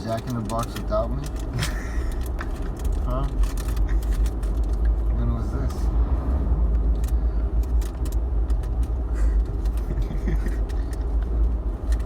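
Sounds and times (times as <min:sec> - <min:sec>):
light clicks and rattles: 0:00.0 - 0:05.8, 0:06.7 - 0:12.0
car engine and road drone: 0:00.0 - 0:12.0.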